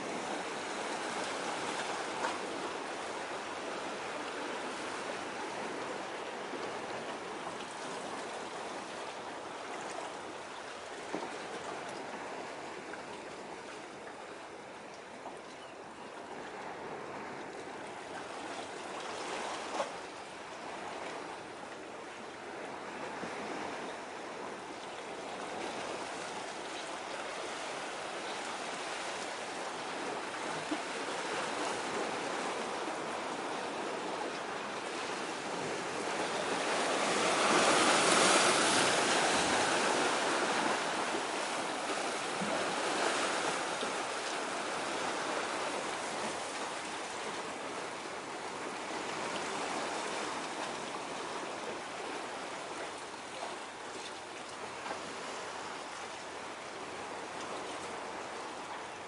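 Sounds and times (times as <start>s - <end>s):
sea water lapping at shore: 0.0s - 59.0s.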